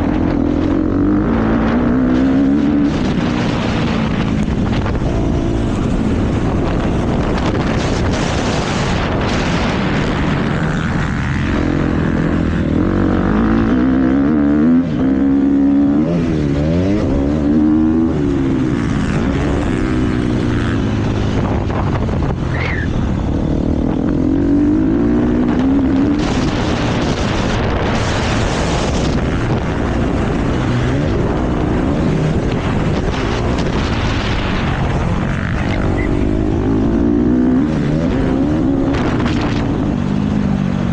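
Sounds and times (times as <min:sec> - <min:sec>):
wind buffeting microphone: 0:00.0 - 0:14.2, 0:14.8 - 0:40.9
motocross bike engine revving: 0:00.0 - 0:21.5, 0:23.8 - 0:40.0.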